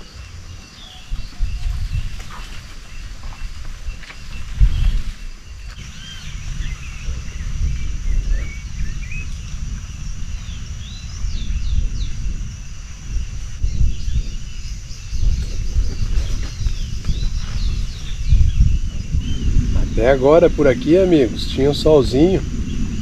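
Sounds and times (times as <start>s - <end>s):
birds chirping: 0.0s - 23.0s
wind buffeting microphone: 0.0s - 23.0s.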